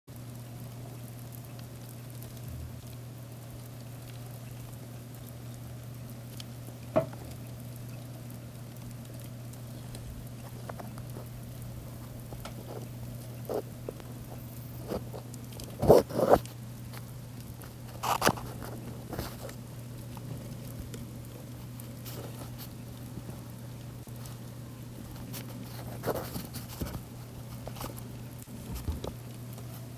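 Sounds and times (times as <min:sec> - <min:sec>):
crickets scratching and crunching: 0:00.1 - 0:29.9
steady low hum: 0:00.1 - 0:29.9.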